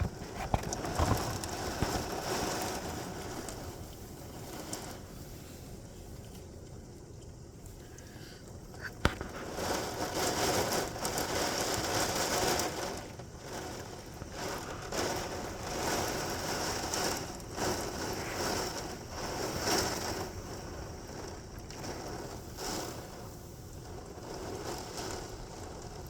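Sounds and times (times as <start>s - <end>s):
torrential rain: 0.0s - 26.0s.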